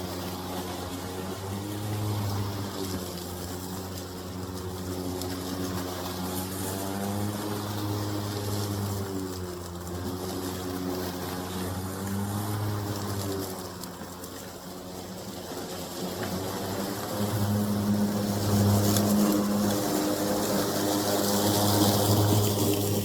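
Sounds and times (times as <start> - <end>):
lawn mower running: 0.0 - 23.0.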